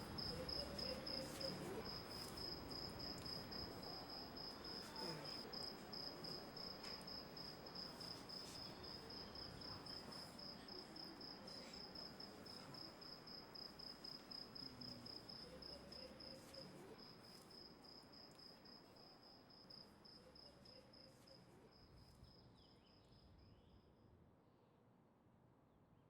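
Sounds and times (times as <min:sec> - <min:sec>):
cricket chirping: 0:00.0 - 0:23.7.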